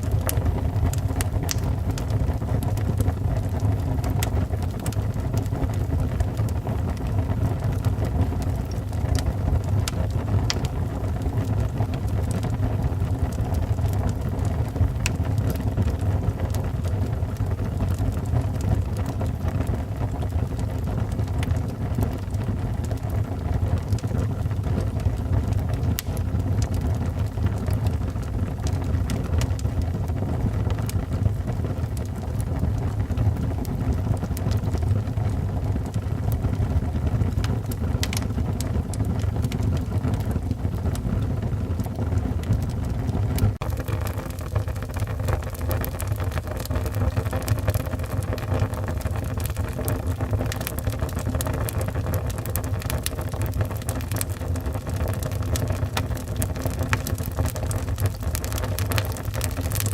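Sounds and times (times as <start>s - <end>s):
burning wood crackling and popping: 0.0s - 59.9s
low rush of flames: 0.0s - 59.9s.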